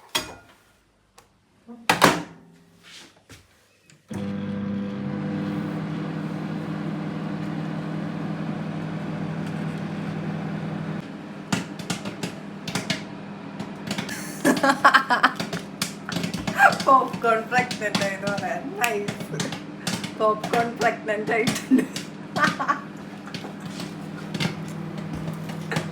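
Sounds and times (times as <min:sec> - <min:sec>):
microwave oven humming: 0:04.1 - 0:25.9.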